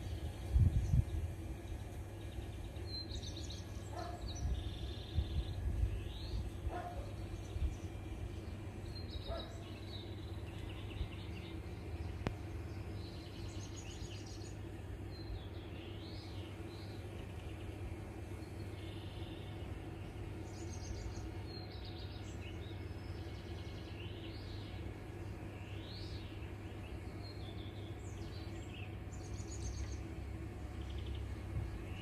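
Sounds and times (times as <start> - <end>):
low background rumble: 0.0 - 32.0
small birds chirping: 0.0 - 32.0.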